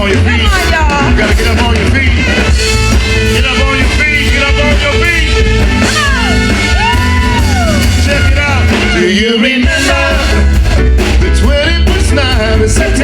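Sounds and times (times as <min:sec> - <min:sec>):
live band playing soul music: 0:00.0 - 0:13.0.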